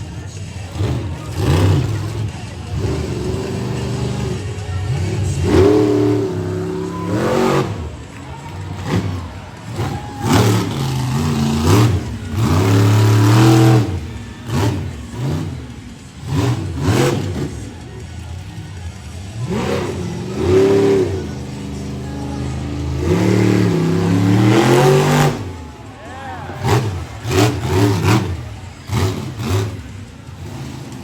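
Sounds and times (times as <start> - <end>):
monster truck engine revving: 0.0 - 31.0.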